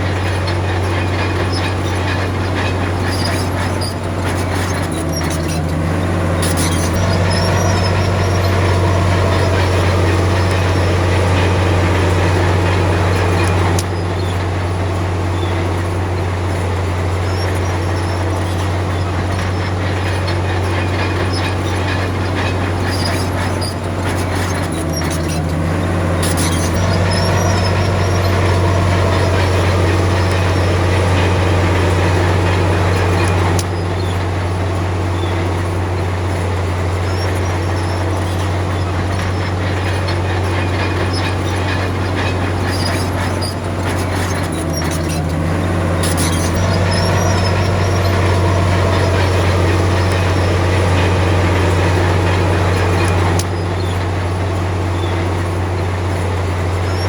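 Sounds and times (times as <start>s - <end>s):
bulldozer diesel engine running: 0.0s - 57.0s
short high squeaks: 0.0s - 57.0s
track clanking: 0.0s - 57.0s.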